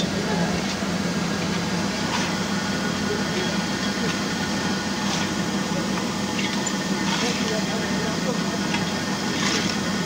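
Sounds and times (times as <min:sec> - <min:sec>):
locomotive low drone: 0:00.0 - 0:10.0.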